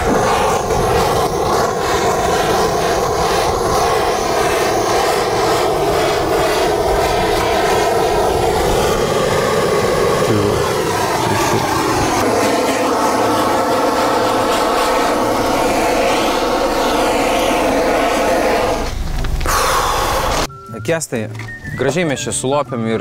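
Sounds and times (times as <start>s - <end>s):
heat gun fan blowing: 0.0s - 20.5s.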